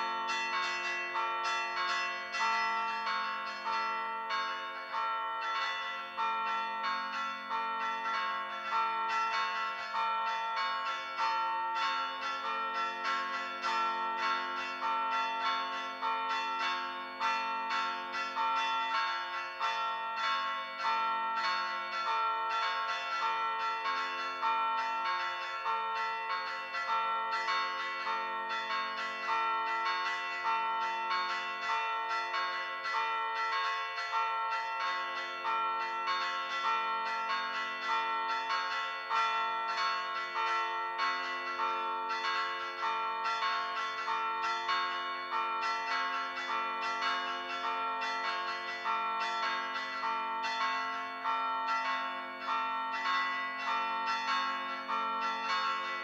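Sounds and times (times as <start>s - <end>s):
church bells struck by hand: 0.0s - 56.0s.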